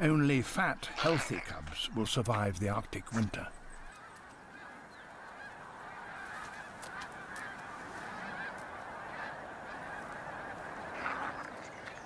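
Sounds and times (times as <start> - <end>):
flock of geese honking: 0.2 - 12.0.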